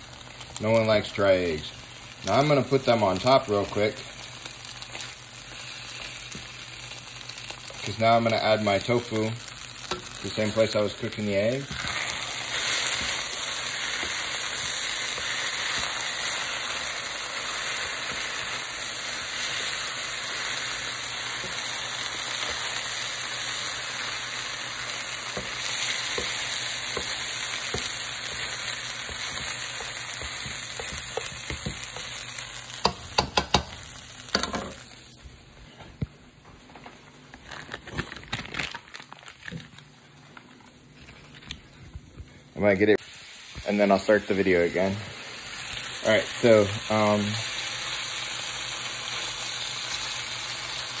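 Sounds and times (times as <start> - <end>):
rice sizzling in frying pan: 0.0 - 35.2, 43.0 - 51.0.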